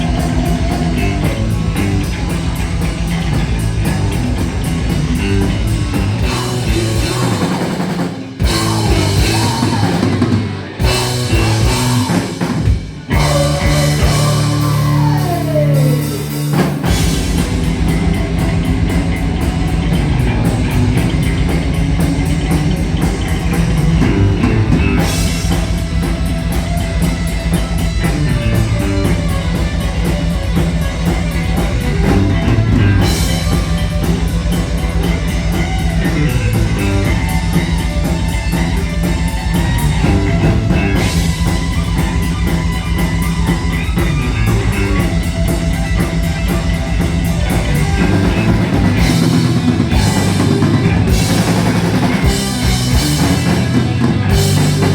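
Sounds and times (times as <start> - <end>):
heavy metal band playing: 0.0 - 54.9.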